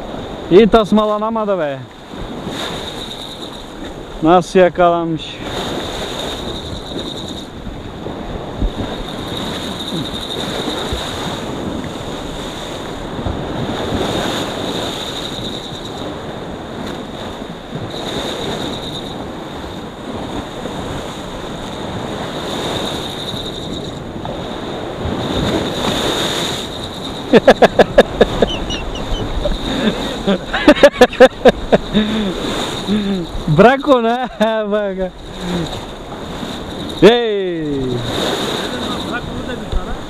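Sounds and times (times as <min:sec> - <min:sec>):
sea waves breaking on rocks: 0:00.0 - 0:40.0
wind buffeting microphone: 0:01.9 - 0:04.2, 0:05.1 - 0:40.0.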